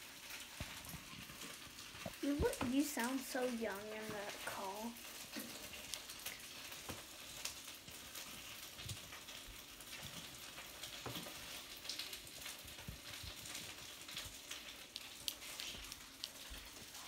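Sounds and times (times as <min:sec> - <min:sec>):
dumplings sizzling in oil: 0:00.0 - 0:17.0.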